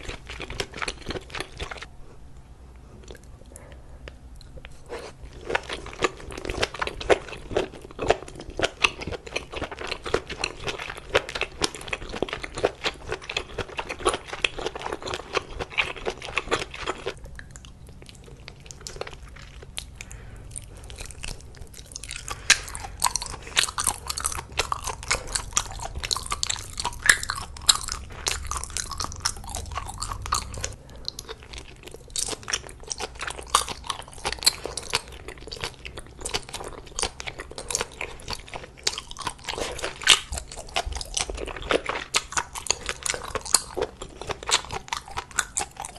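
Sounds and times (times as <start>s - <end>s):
chewing and crunching food: 0.0s - 45.9s.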